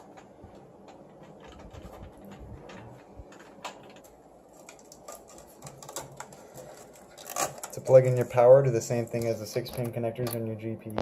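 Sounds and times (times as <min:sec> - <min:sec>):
cables and connectors clicking: 0:00.0 - 0:11.0.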